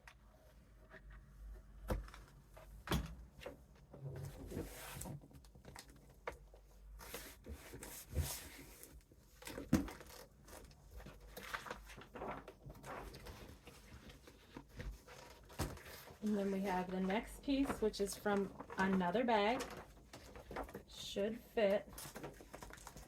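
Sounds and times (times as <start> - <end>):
paper rustling and crinkling: 4.2 - 23.0.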